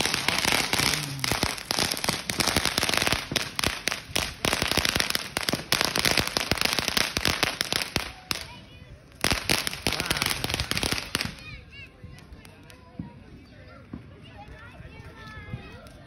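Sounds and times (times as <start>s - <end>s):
fireworks crackling pops: 0.0s - 13.2s.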